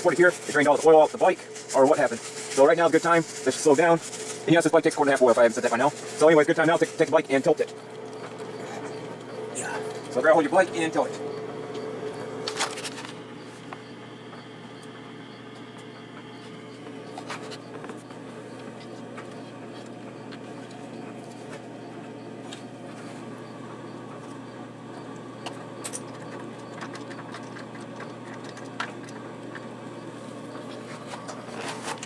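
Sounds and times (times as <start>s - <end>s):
constant low hum: 0.0s - 32.0s.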